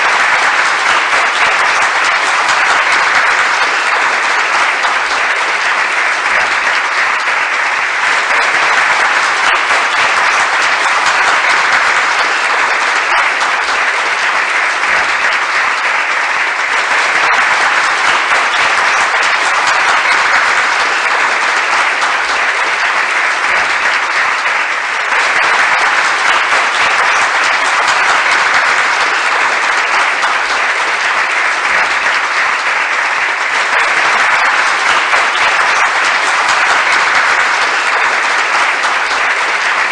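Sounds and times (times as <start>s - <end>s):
crowd applause: 0.0s - 39.9s.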